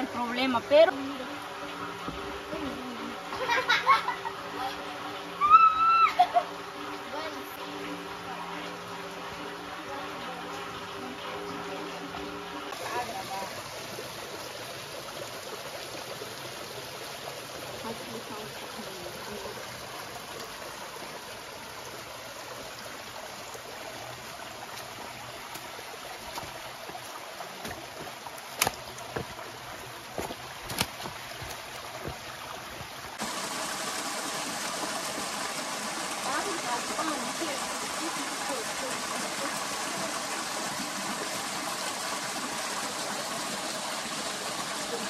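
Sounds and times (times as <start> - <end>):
stream trickling over rocks: 0.0 - 45.0.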